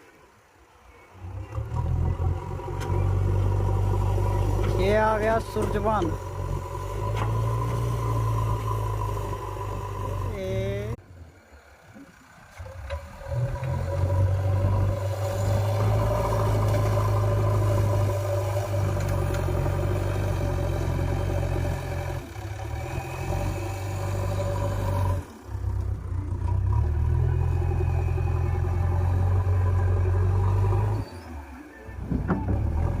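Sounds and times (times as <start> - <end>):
diesel engine revving under load: 1.1 - 11.0, 11.6 - 33.0.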